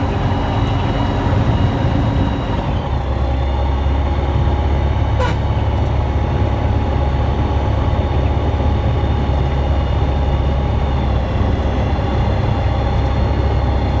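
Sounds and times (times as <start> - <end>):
light aircraft engine running: 0.0 - 14.0.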